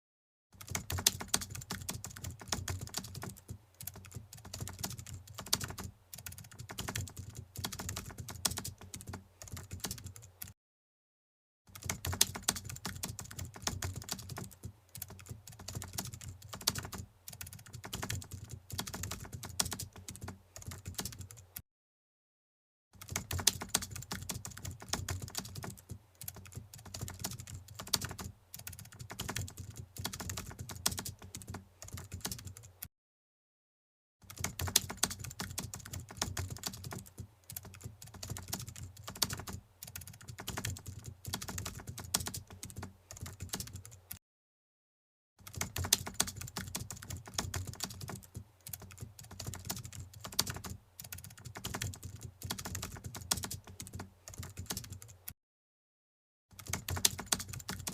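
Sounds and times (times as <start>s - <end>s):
rapid keyboard typing: 0.6s - 10.6s, 11.7s - 21.6s, 23.0s - 32.8s, 34.2s - 44.2s, 45.4s - 55.3s, 56.5s - 57.9s.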